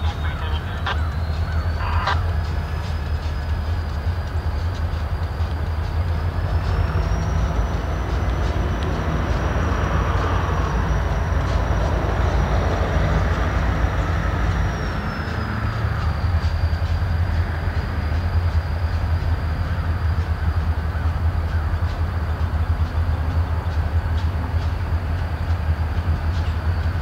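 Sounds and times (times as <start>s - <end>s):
diesel locomotive engine rumble: 0.0s - 27.0s.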